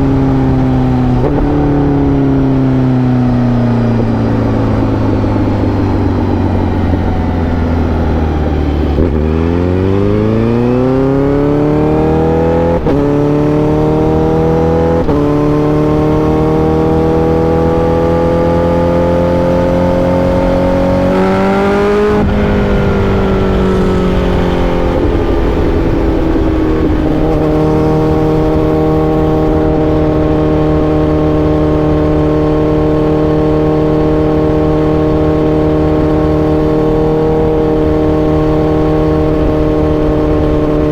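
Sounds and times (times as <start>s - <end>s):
gear changes: 0.0s - 40.9s
motorcycle engine revving: 0.0s - 40.9s.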